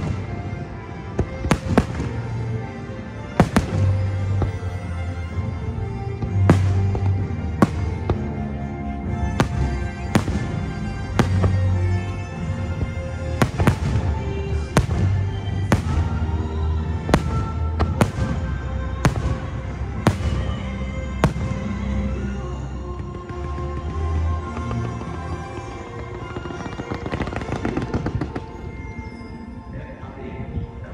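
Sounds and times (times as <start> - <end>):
fireworks bursting: 0.0 - 5.5, 6.1 - 8.4, 9.1 - 29.3
music soundtrack: 0.0 - 30.9.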